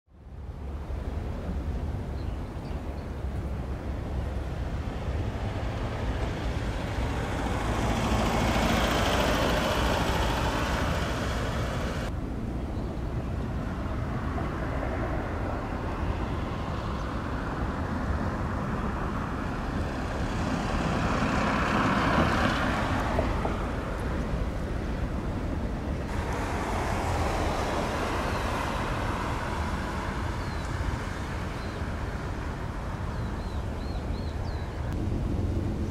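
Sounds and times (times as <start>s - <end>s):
low traffic rumble: 0.1s - 35.9s
vehicles passing: 0.1s - 35.9s.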